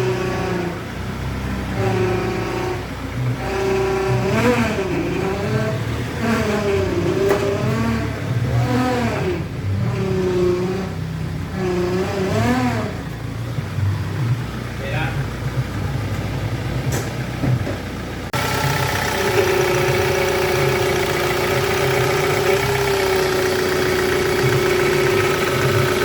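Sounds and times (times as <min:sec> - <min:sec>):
diesel engine idling: 0:00.0 - 0:26.0
power steering pump whining: 0:00.0 - 0:26.0.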